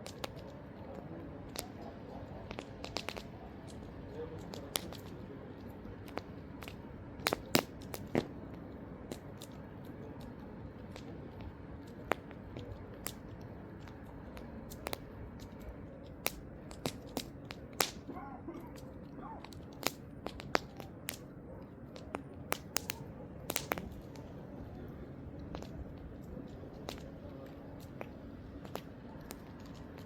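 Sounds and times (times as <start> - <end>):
campfire crackling and popping: 0.0 - 30.0
low rush of burning: 2.5 - 30.0.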